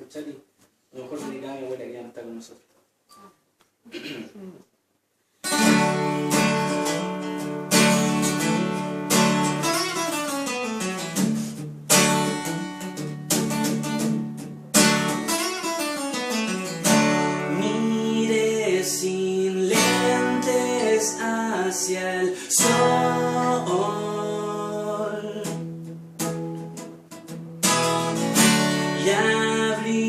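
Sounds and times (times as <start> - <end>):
acoustic guitar chords strummed: 5.4 - 30.0.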